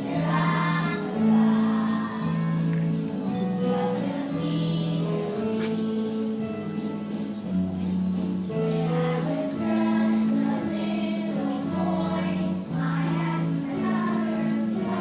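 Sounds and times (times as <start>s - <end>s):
person singing with accompaniment: 0.0s - 7.0s, 8.6s - 15.0s.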